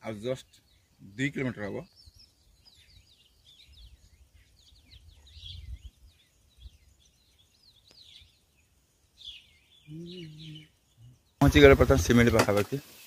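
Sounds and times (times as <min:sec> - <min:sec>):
birds chirping and whistling: 0:00.0 - 0:12.3.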